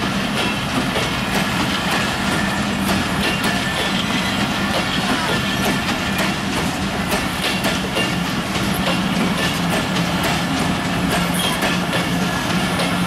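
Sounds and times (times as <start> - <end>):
train wheels on rails: 0.0 - 13.0
wheels clacking over rail joints: 0.0 - 13.0.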